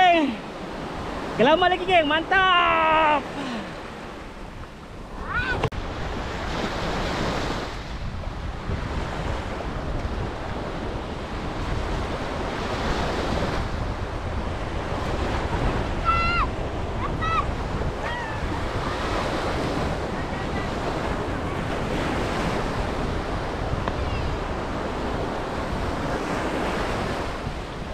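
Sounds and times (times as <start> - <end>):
surf washing onto beach: 0.0 - 27.9
wind buffeting microphone: 4.1 - 27.9.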